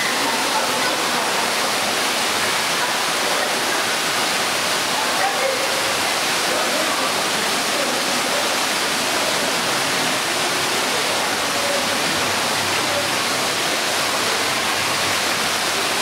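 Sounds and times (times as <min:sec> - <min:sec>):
fountain water splashing: 0:00.0 - 0:16.0.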